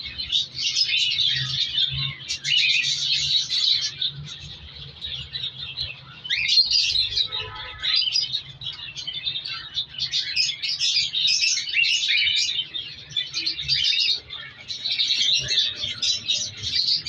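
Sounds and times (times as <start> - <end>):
cockatiels chirping: 0.0 - 17.0.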